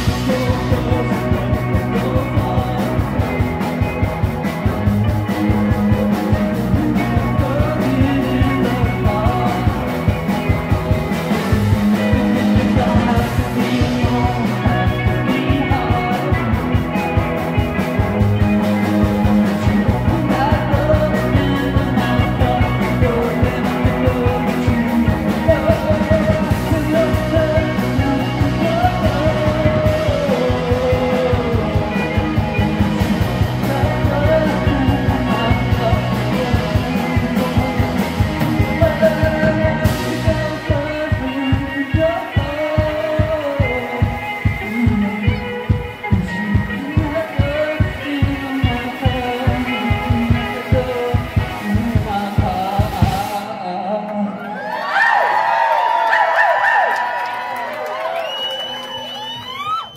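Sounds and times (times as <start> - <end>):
driving drum beat: 0.0 - 53.7
person singing: 0.0 - 54.9
bass guitar: 0.0 - 59.9
electric guitar: 0.0 - 59.9.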